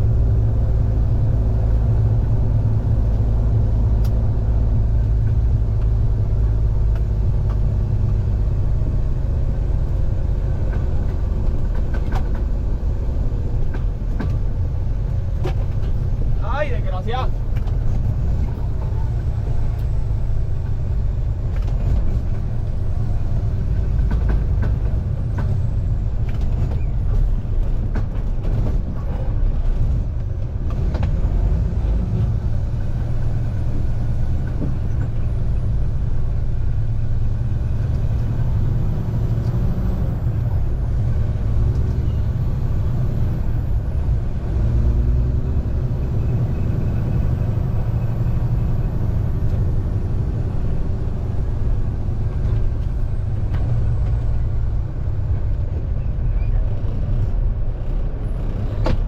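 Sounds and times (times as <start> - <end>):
road noise: 0.0 - 59.0
truck diesel engine rumble: 0.0 - 59.0.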